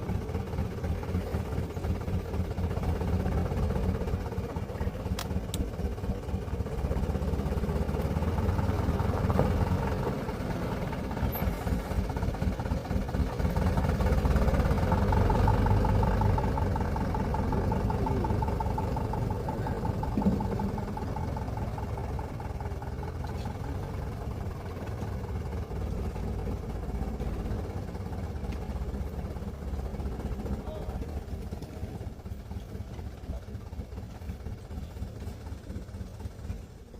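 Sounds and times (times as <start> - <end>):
truck engine running: 0.0 - 36.9.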